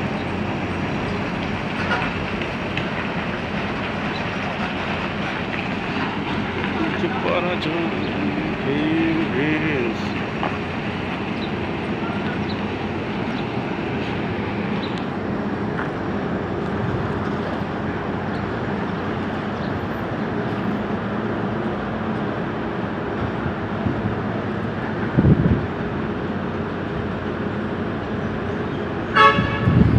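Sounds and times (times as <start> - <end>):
diesel engine running: 0.0 - 29.9
machinery noise: 0.0 - 29.9.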